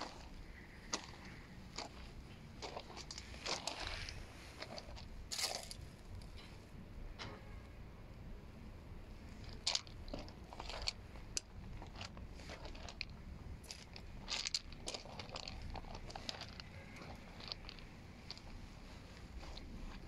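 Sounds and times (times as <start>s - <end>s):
footsteps crunching on gravel: 0.0s - 5.8s, 9.8s - 20.0s
low steady rumble: 0.0s - 20.0s.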